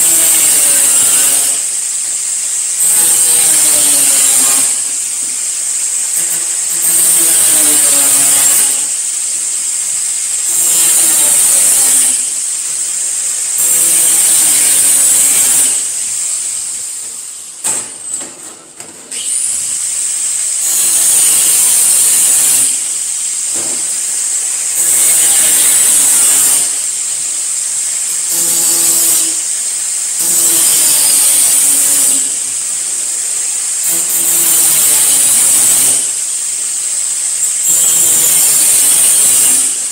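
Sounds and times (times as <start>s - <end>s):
angle grinder cutting sheet steel: 0.0s - 39.9s.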